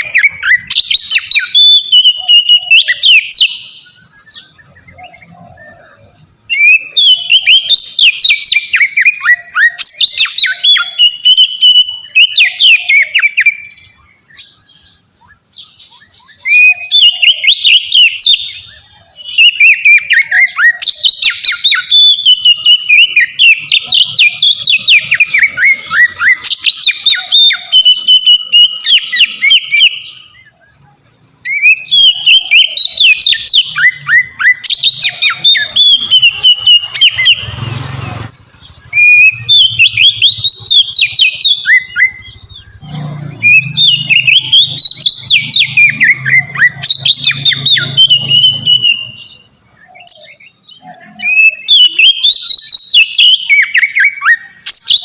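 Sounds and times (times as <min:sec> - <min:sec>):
songbird singing whistles and trills: 0:00.0 - 0:55.0.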